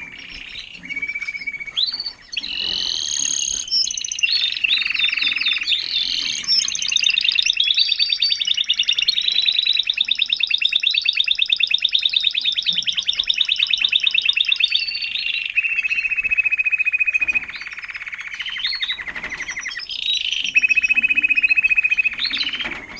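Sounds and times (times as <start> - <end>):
canary trilling song: 0.0 - 22.9.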